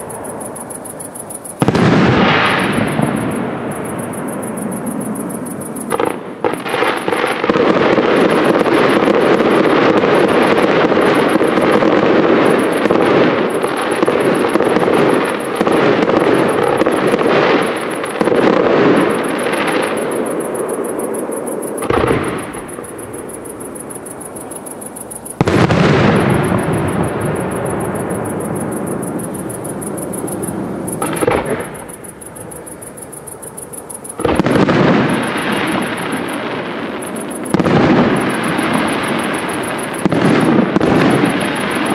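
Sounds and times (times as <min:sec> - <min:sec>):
fireworks booming and crackling: 0:00.0 - 0:41.9.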